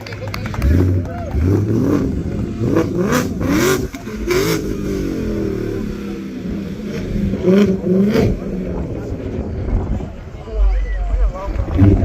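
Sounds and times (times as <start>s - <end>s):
truck engine revving: 0.0s - 10.3s, 11.6s - 12.0s.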